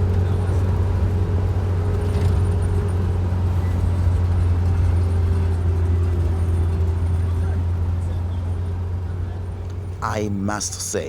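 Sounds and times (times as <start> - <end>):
engine deep drone: 0.0 - 10.9.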